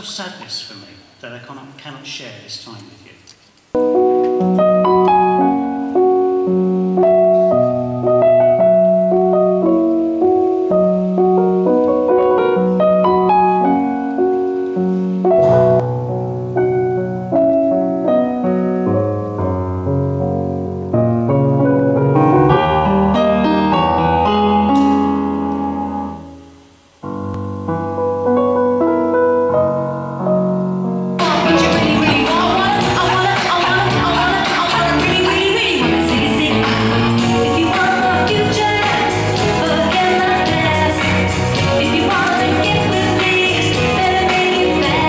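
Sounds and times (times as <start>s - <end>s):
digital piano chords and melody: 3.8s - 45.0s.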